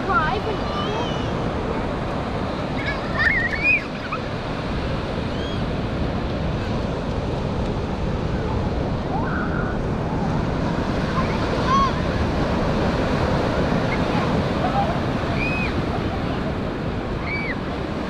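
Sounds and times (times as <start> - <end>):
ocean surf washing on shore: 0.0 - 18.0
wind buffeting microphone: 0.0 - 18.0.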